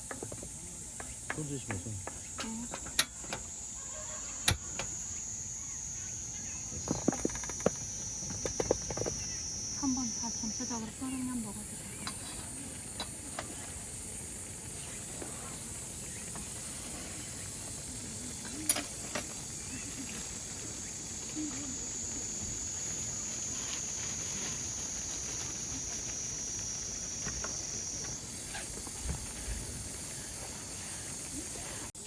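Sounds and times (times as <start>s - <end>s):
insects chorus: 0.0s - 32.0s.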